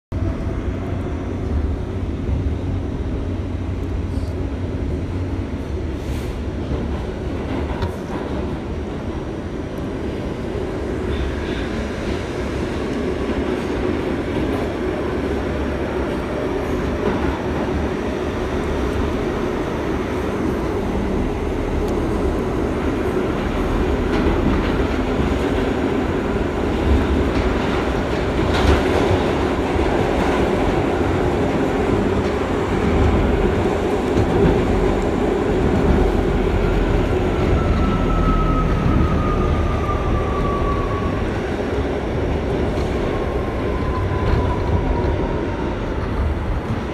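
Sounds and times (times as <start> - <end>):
subway car wheels on rails: 0.1 - 46.9.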